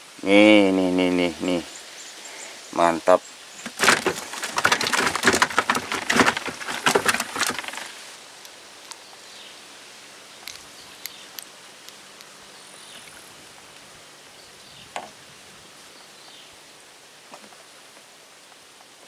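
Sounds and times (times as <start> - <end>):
outdoor hiss over water: 0.0 - 19.0.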